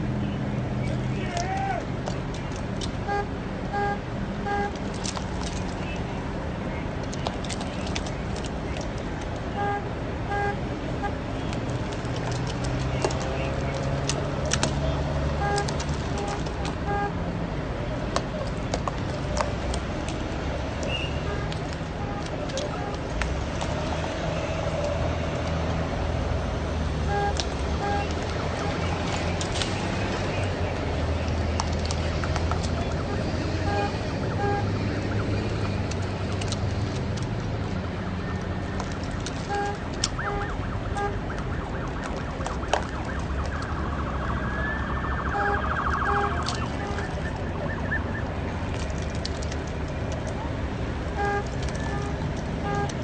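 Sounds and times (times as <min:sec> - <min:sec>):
traffic and engines rumbling: 0:00.0 - 0:53.0.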